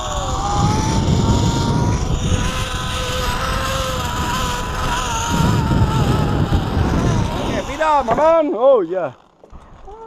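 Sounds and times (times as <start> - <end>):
wind buffeting microphone: 0.0 - 8.5
zip-line pulleys whining on cable: 0.0 - 10.0.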